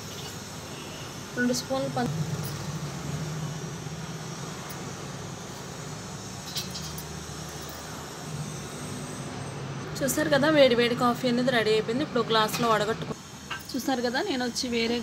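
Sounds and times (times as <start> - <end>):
stove burner hum and hiss: 0.0 - 15.0.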